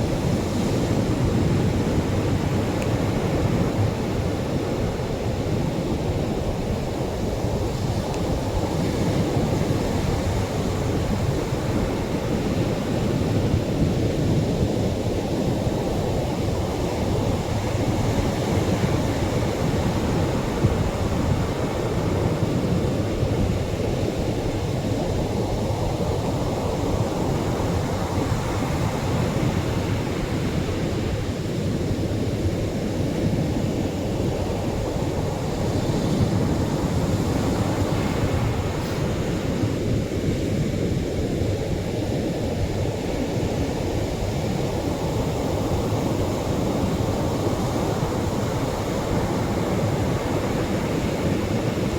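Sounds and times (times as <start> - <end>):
surf washing onto beach: 0.0 - 51.9.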